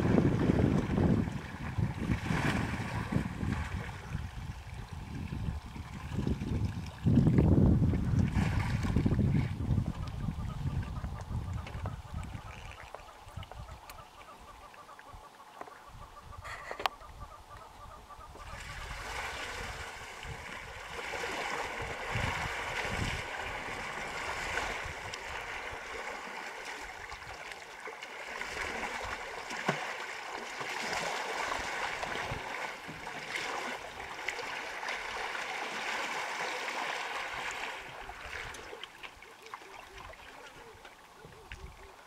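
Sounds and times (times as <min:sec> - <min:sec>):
water sloshing and splashing: 0:00.0 - 0:15.0, 0:18.4 - 0:42.0.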